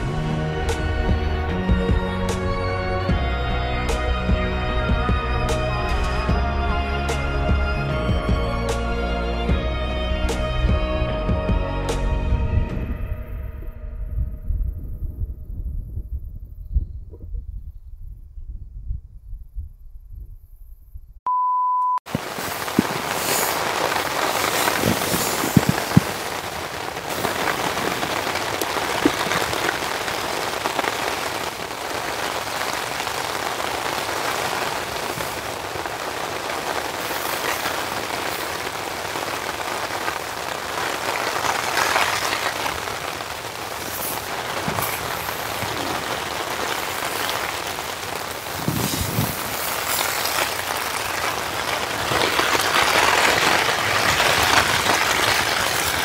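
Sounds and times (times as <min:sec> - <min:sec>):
steady rain falling: 0:00.0 - 0:12.3, 0:22.1 - 0:56.0.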